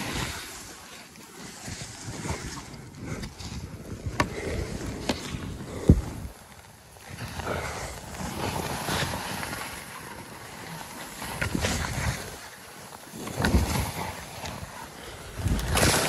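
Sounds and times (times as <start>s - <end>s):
skis scraping through snow: 0.0s - 16.0s
wind on microphone: 0.0s - 16.0s.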